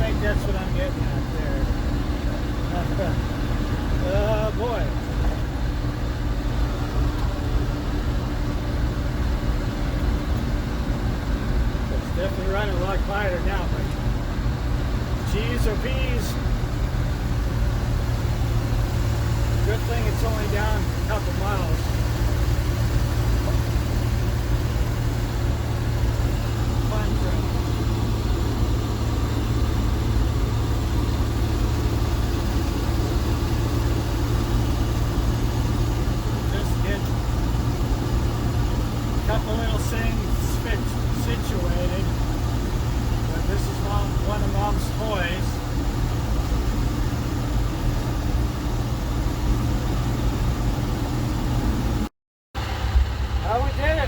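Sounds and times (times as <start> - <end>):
road noise: 0.0 - 54.0
truck engine rumbling: 0.0 - 54.0.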